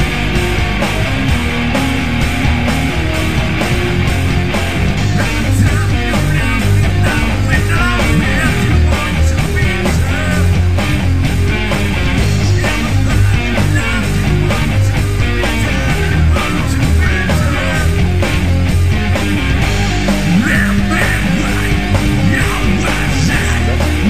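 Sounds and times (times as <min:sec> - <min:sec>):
guitars: 0:00.0 - 0:24.0
rock music: 0:00.0 - 0:24.0
steady drum beat: 0:00.0 - 0:24.0.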